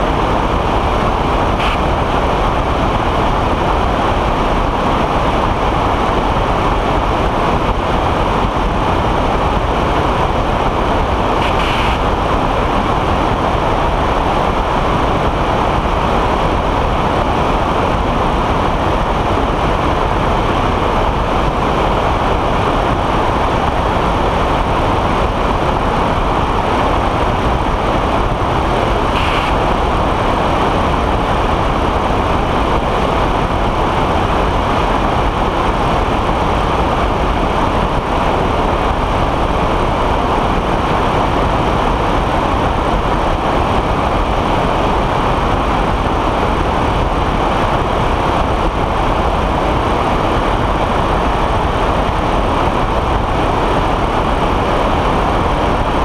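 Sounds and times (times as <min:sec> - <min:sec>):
engine and propeller running: 0:00.0 - 0:56.0
wind rushing over microphone: 0:00.0 - 0:56.0.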